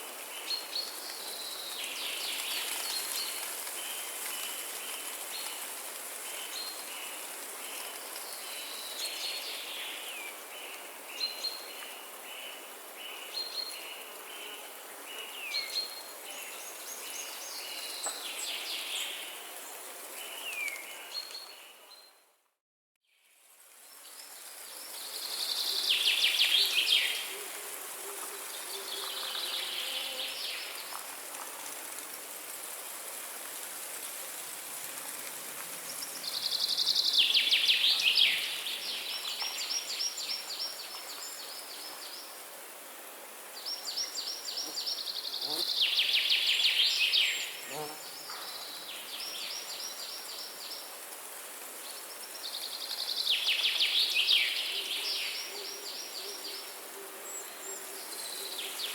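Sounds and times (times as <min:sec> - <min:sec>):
forest background hiss: 0:00.0 - 0:22.2, 0:23.1 - 0:58.9.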